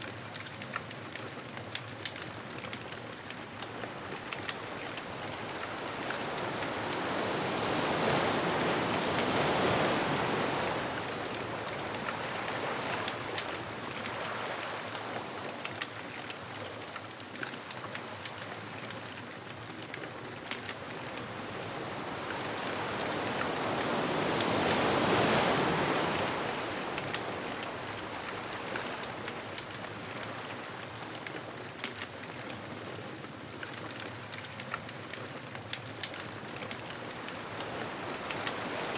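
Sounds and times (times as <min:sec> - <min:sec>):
bonfire crackling and popping: 0:00.0 - 0:07.8, 0:09.3 - 0:24.9, 0:26.2 - 0:38.9
ocean waves washing on beach: 0:00.0 - 0:38.9.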